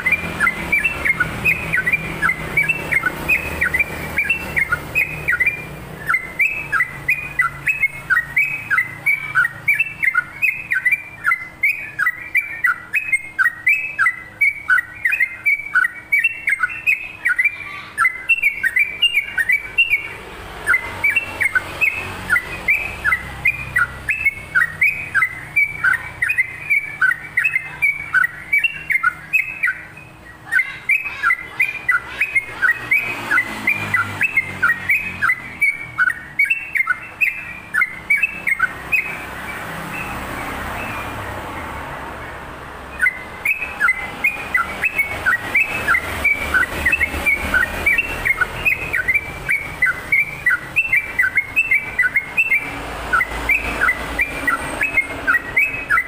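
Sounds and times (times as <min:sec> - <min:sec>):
bird singing chattering notes: 0:00.0 - 0:56.0.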